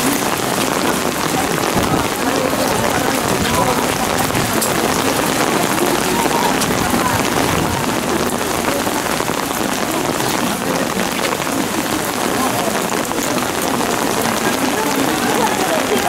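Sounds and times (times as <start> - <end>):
rain on umbrellas and pavement: 0.0 - 16.0.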